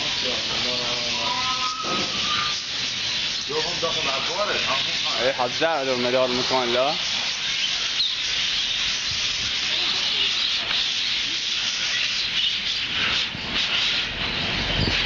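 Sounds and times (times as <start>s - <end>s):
caged birds twittering: 0.0s - 15.0s.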